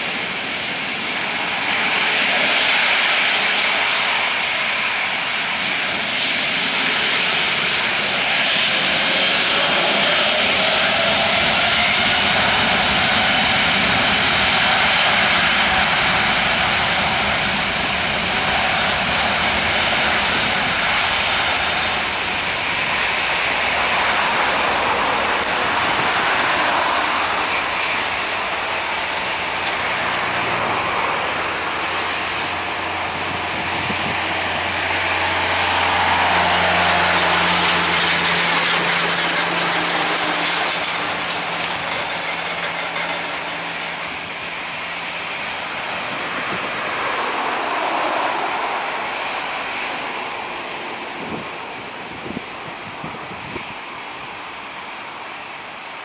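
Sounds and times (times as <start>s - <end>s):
jet engine roar at takeoff: 0.0s - 56.0s.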